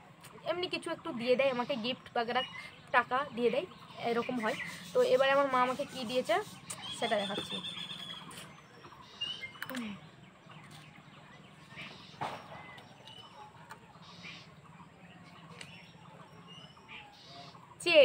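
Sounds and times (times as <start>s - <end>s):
faint bird chirps: 0.4s - 18.0s.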